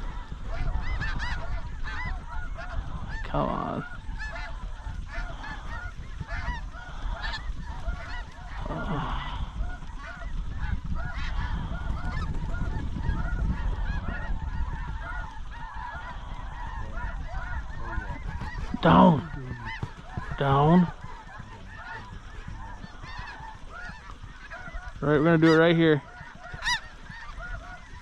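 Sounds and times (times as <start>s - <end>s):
snow geese honking: 0.0s - 28.0s.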